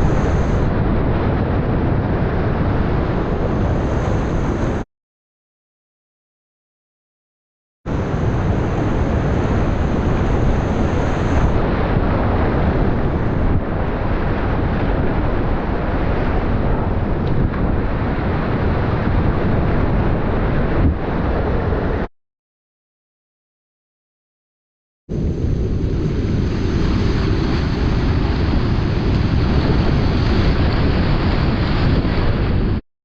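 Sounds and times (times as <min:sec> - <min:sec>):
wind buffeting microphone: 0:00.0 - 0:04.8, 0:07.9 - 0:22.1, 0:25.1 - 0:32.8.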